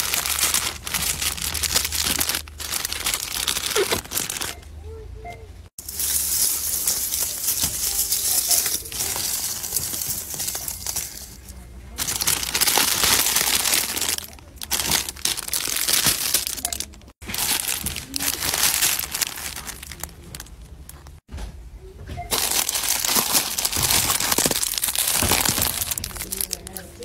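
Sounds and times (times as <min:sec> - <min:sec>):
plastic packaging crinkling: 0:00.0 - 0:04.7, 0:05.8 - 0:21.2, 0:22.3 - 0:27.0.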